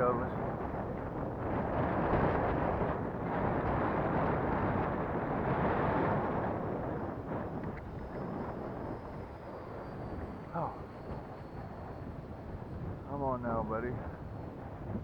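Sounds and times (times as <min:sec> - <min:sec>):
electric ducted fan whine: 0:00.0 - 0:15.0
wind buffeting microphone: 0:00.0 - 0:15.0.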